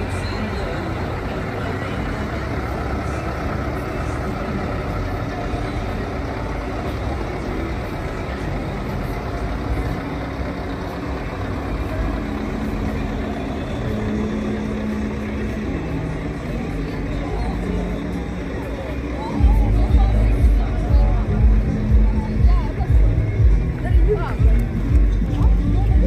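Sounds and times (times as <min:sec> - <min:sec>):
truck diesel engine rumbling: 0:00.0 - 0:26.0.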